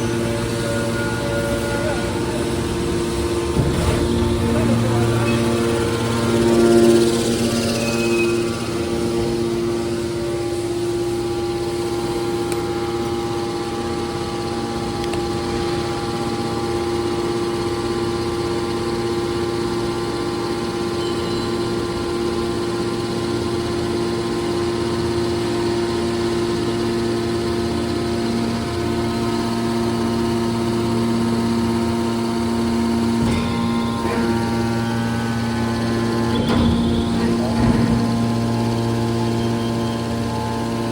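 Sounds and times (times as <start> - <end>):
hydraulic machine hum: 0.0 - 19.0, 24.9 - 40.9.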